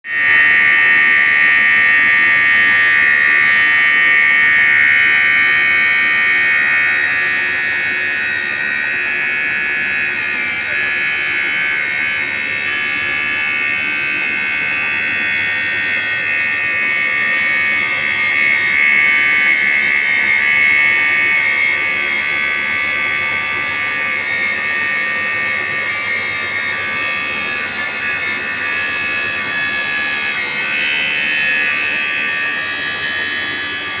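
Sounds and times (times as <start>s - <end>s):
metal lathe cutting whine: 0.0s - 34.0s.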